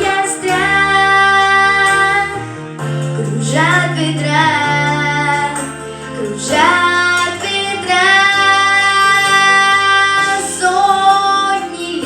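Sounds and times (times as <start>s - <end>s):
girl singing: 0.0s - 2.5s, 3.2s - 12.0s
backing track music: 0.0s - 12.0s.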